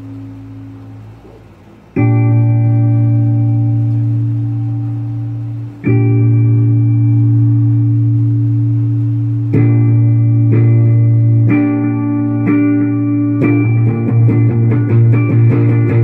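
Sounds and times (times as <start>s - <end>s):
electric guitar sustained chords: 0.0s - 16.0s.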